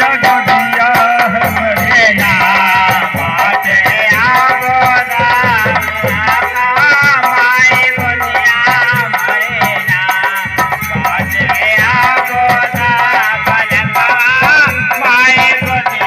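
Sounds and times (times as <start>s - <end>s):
hand percussion beat: 0.0s - 16.0s
harmonium melody: 0.0s - 16.0s.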